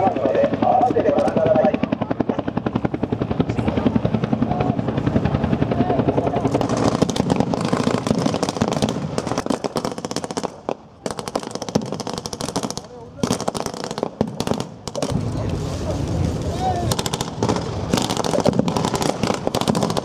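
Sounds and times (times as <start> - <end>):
helicopter rotor beating: 0.0 - 20.0.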